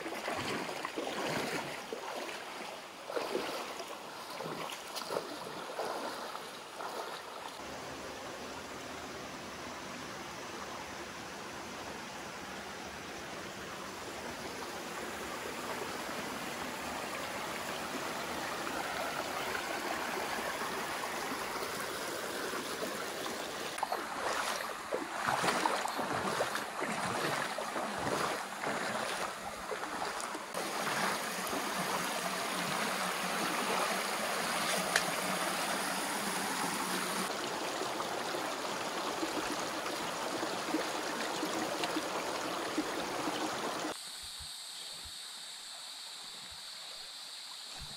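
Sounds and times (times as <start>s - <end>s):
creek water rushing over rocks: 0.0s - 44.0s.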